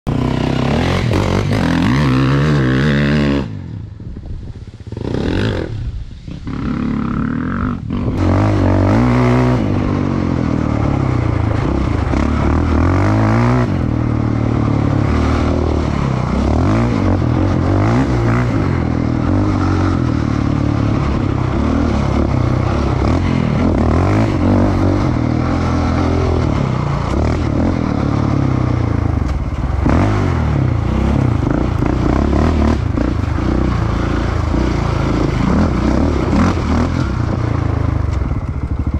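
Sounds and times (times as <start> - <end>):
quad bike engine running: 0.1 - 38.9.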